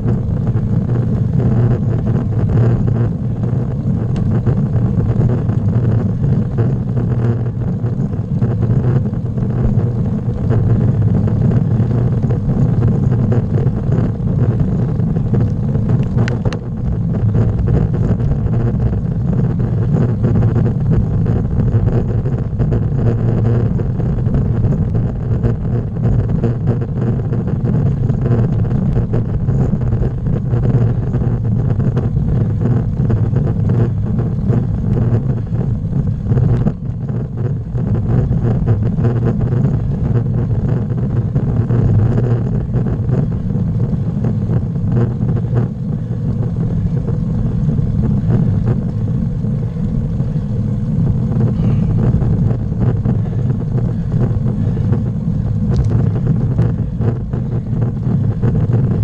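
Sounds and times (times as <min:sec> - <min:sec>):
bicycle tyre rumble on asphalt: 0:00.0 - 0:59.0.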